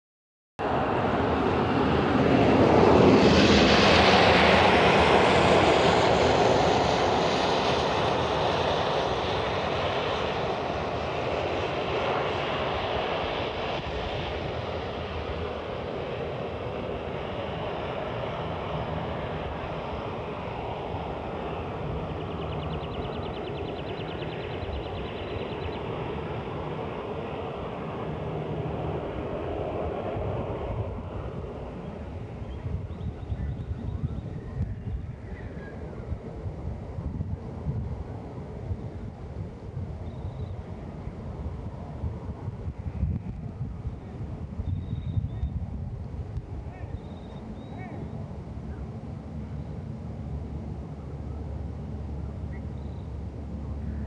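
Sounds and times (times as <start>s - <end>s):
aircraft flying past: 0.6s - 54.0s.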